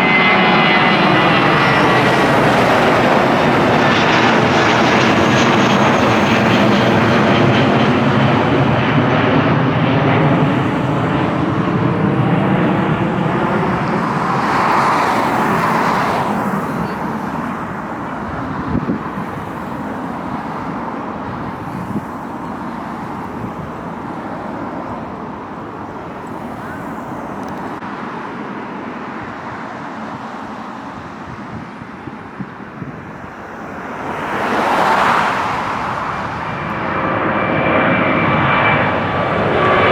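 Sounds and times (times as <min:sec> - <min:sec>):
jet airliner engine roar: 0:00.0 - 0:39.9.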